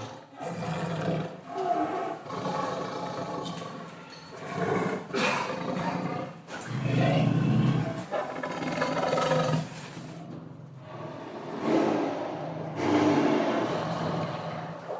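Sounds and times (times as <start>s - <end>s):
lion roaring and growling: 0.0s - 14.9s.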